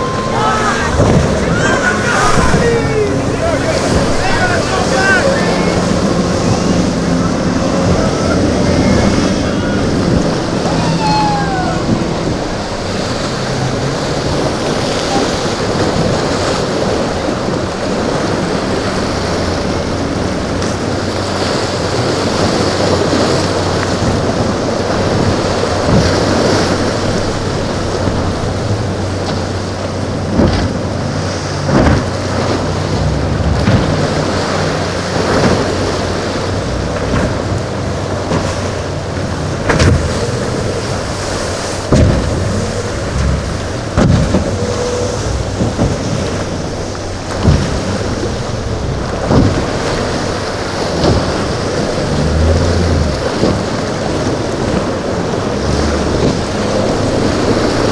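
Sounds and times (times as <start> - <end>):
boat engine droning: 0.0 - 57.9
surf: 0.0 - 57.9
wind buffeting microphone: 0.0 - 57.9.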